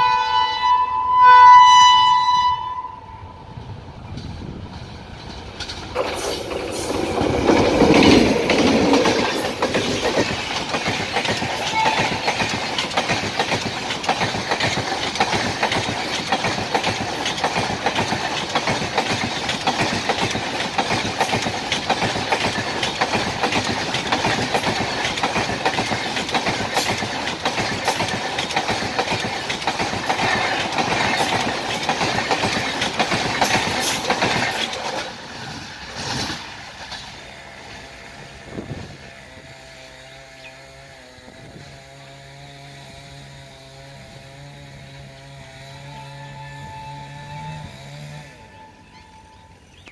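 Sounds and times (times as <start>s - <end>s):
electric locomotive passing: 0.0s - 49.9s
train wheels clickety-clack: 3.6s - 48.5s.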